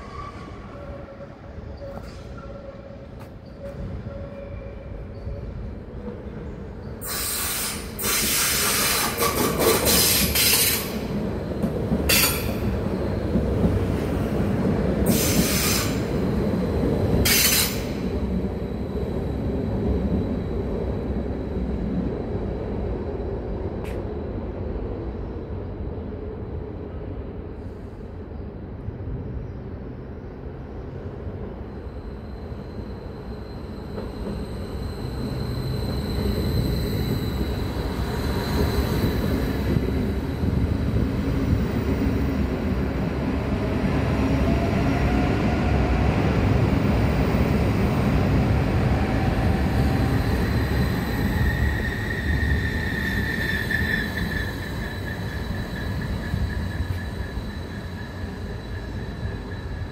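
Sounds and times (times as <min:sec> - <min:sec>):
train wheels rumbling on rails: 0:00.0 - 0:28.2, 0:29.1 - 0:59.9.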